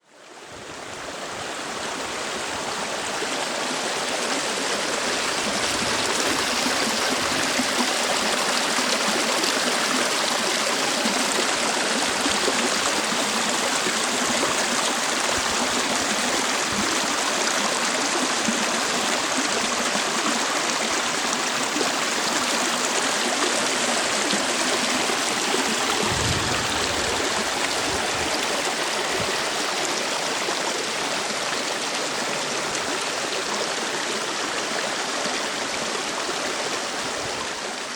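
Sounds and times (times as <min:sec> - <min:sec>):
stream rushing over rocks: 0:00.2 - 0:37.9.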